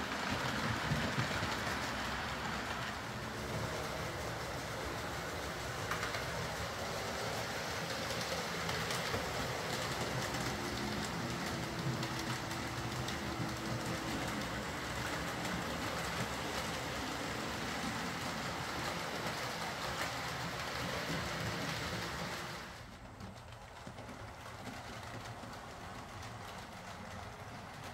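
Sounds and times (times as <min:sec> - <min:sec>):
small wheels rattling on rails: 0:00.0 - 0:27.9.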